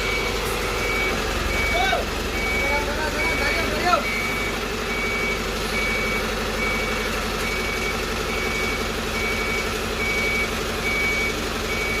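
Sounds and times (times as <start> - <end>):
high-pitched warning alarm beeps: 0.0 - 12.0
truck diesel engine running: 0.0 - 12.0.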